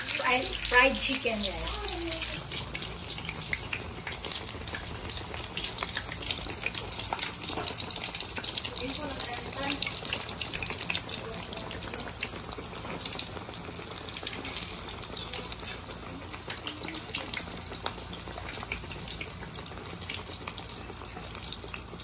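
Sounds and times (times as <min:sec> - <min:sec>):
chicken deep-frying in oil: 0:00.0 - 0:22.0.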